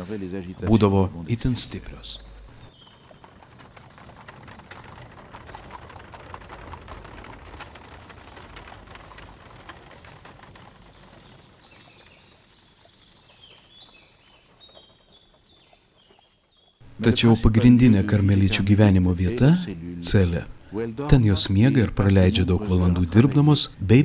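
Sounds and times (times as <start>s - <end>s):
small birds chirping: 0.0s - 5.6s, 7.0s - 24.0s
horse hooves clip-clopping: 1.7s - 24.0s.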